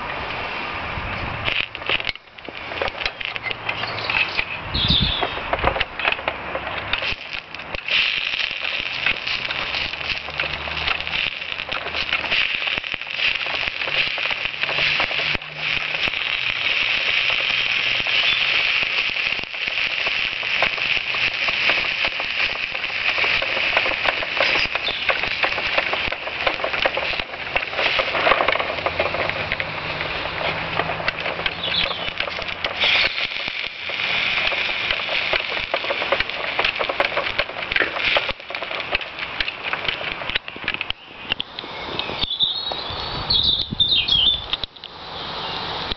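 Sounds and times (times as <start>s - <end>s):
constant high hiss: 0.0s - 45.9s
fire crackling and popping: 0.0s - 45.9s.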